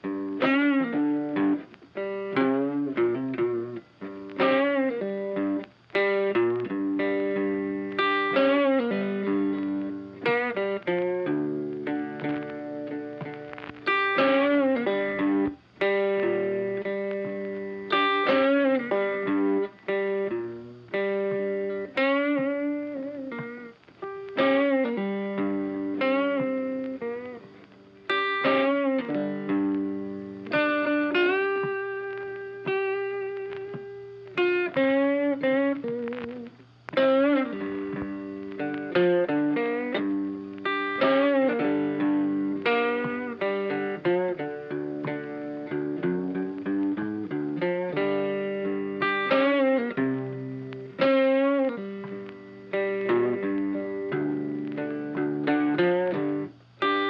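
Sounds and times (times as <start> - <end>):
plucked guitar: 0.0 - 57.0.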